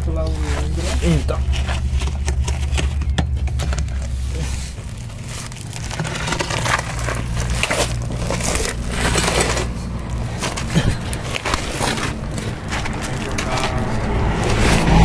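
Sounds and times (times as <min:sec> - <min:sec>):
low engine hum: 0:00.0 - 0:15.0
plastic tarp crinkling: 0:00.0 - 0:15.0.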